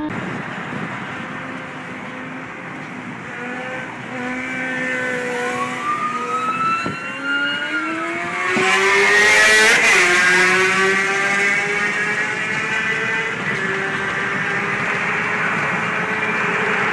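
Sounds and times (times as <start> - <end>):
vehicle engines revving: 0.0 - 16.9.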